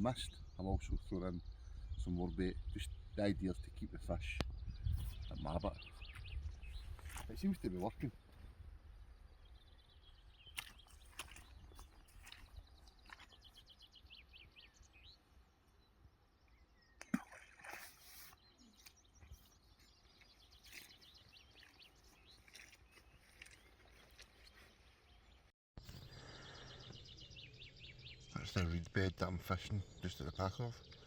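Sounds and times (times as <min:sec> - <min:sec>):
faint birdsong chirps and trills: 0:00.0 - 0:31.0.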